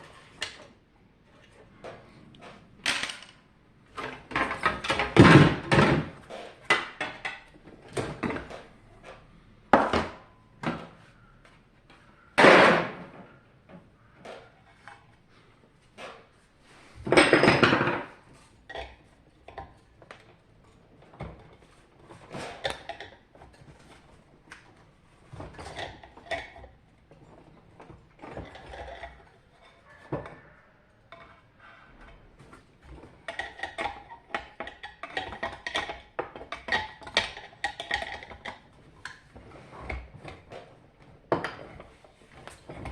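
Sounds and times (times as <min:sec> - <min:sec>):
parts and tools knocking and rattling: 0:00.0 - 0:11.1, 0:11.9 - 0:42.9.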